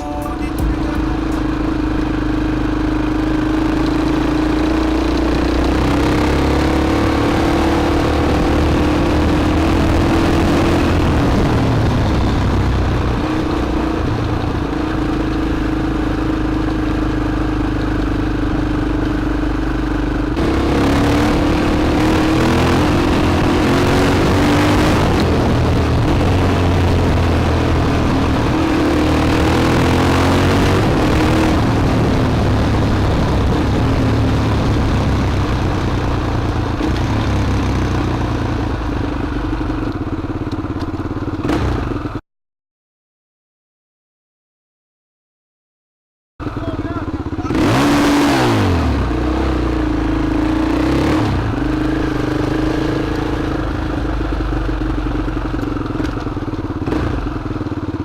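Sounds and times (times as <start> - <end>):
motorcycle engine revving: 0.0 - 42.2, 46.4 - 58.0.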